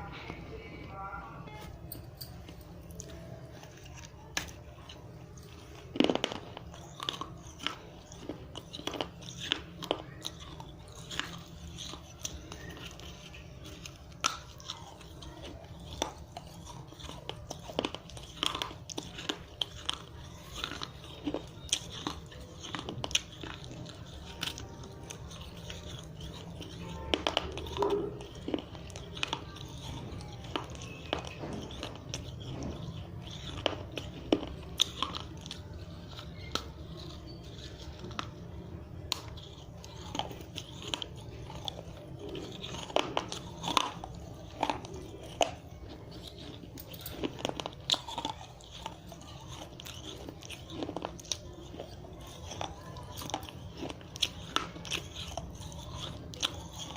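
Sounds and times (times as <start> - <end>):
clay crunching being chewed: 0.0 - 56.9.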